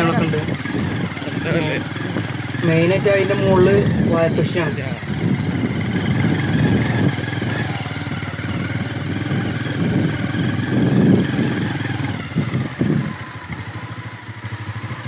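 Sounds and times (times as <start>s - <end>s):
vehicle engine driving: 0.0s - 15.0s.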